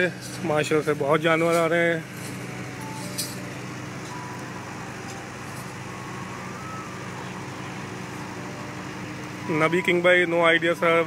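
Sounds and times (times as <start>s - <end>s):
engine-like hum: 0.0s - 11.0s.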